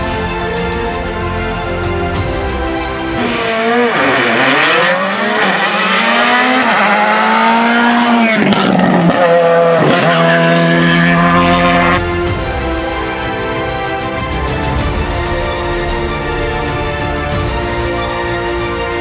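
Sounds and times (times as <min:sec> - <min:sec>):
rally car engine at full throttle: 0:01.7 - 0:19.0.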